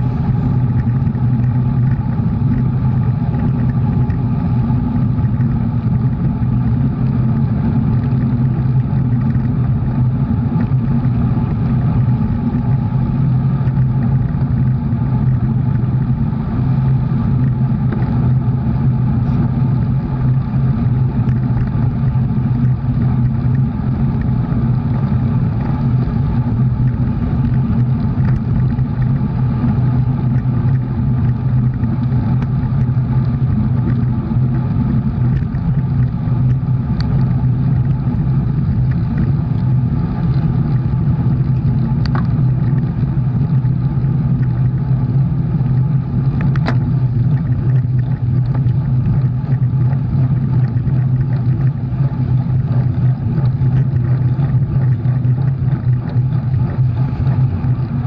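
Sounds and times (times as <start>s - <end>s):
vehicle engine droning: 0.0s - 58.0s.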